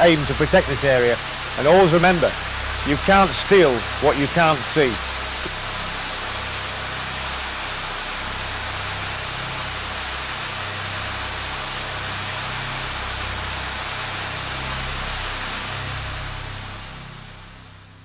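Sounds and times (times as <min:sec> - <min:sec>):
fog jetting out with hiss: 0:00.0 - 0:14.8.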